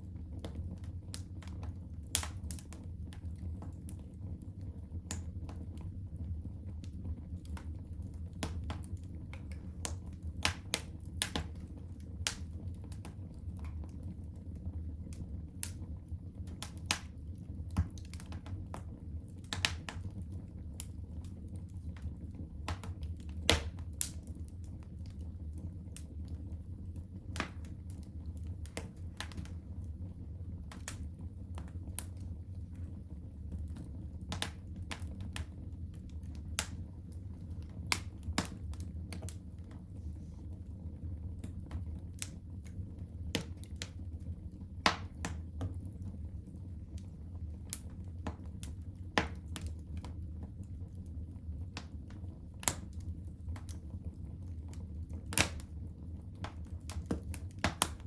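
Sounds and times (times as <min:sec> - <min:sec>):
fire pops and snaps: 0:00.0 - 0:58.0
low fire rumble: 0:00.0 - 0:58.0.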